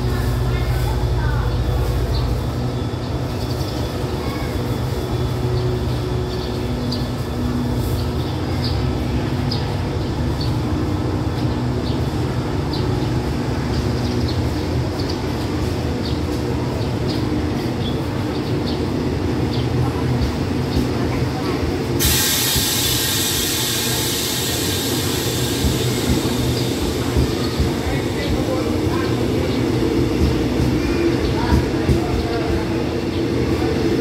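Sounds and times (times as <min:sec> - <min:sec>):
train engine idling: 0:00.0 - 0:34.0.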